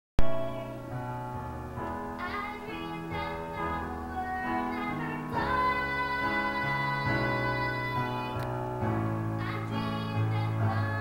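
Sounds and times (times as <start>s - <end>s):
girl singing: 0.2s - 1.0s, 2.1s - 8.7s, 9.3s - 11.0s.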